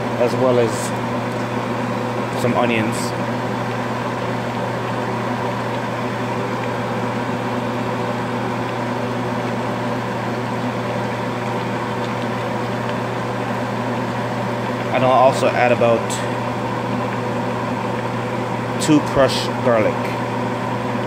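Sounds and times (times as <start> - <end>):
appliance electrical hum: 0.0 - 21.0.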